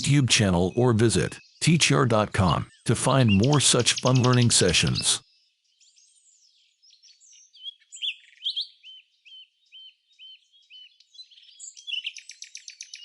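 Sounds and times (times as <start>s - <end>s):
bird trill: 0.0s - 13.0s
songbirds chirping and singing: 0.0s - 13.0s.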